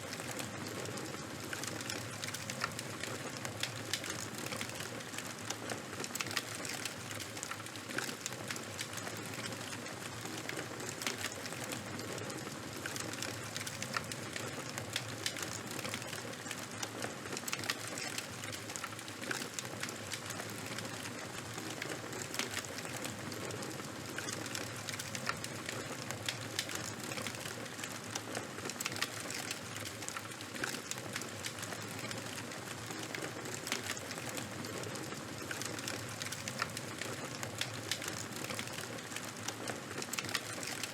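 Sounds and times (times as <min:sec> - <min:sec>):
charcoal and wood fire crackling: 0:00.0 - 0:40.9.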